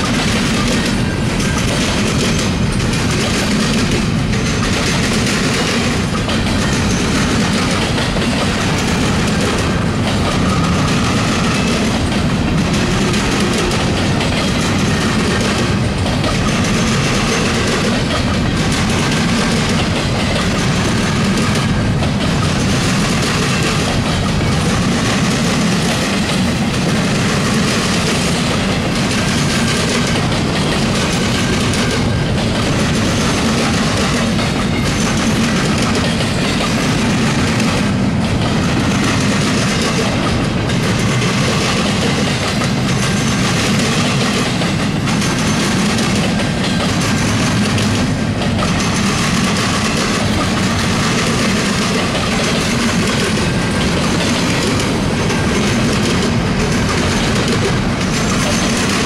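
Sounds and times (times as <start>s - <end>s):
train wheels rolling on rail: 0.0s - 59.0s.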